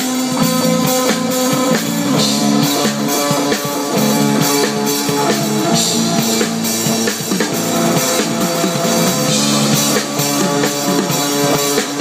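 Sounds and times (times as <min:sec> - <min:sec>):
band playing rock music: 0:00.0 - 0:12.0
drum kit beat: 0:00.0 - 0:12.0
guitar: 0:00.0 - 0:12.0.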